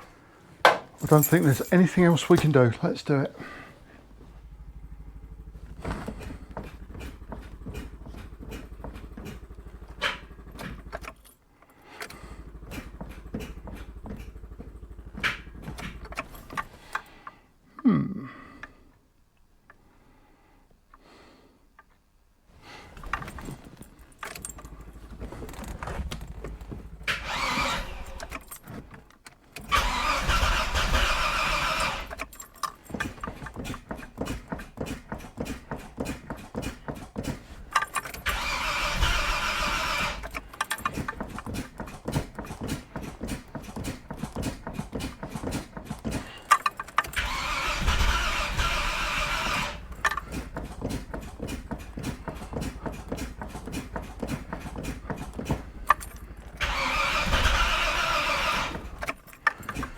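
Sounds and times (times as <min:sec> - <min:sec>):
starter motor cranking engine: 0:01.0 - 0:17.6, 0:22.6 - 0:59.9.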